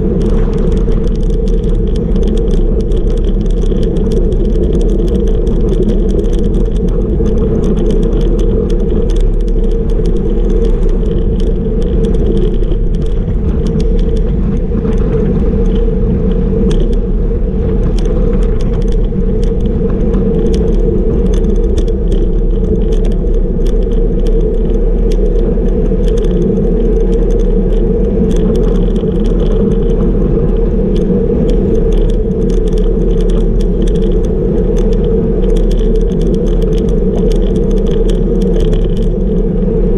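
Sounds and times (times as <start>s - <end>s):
small rattling clicks: 0.0s - 17.1s, 17.7s - 39.8s
tyre noise on asphalt: 0.0s - 39.9s
wind rush on microphone: 0.0s - 39.9s.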